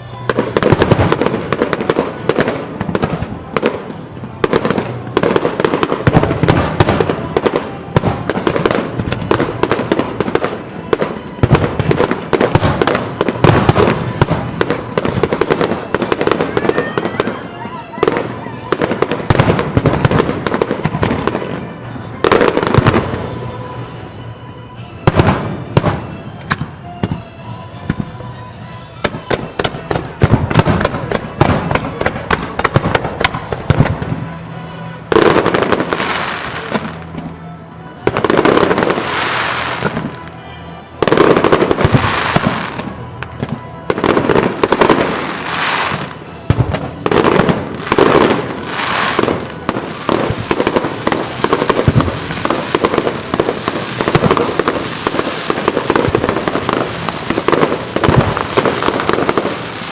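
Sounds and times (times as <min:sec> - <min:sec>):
fireworks booming and crackling: 0:00.0 - 0:59.9
music: 0:00.0 - 0:59.9.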